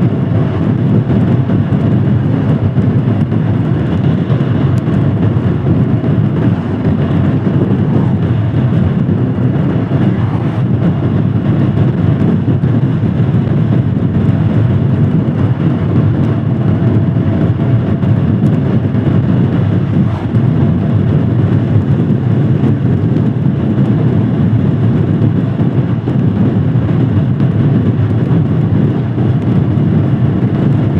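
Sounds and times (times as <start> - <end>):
motorcycle engine cruising: 0.0 - 30.9
wind and road noise: 0.0 - 30.9.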